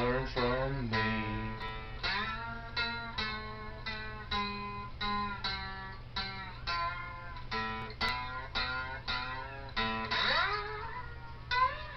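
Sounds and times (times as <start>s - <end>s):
slide guitar plucked notes: 0.0s - 11.9s.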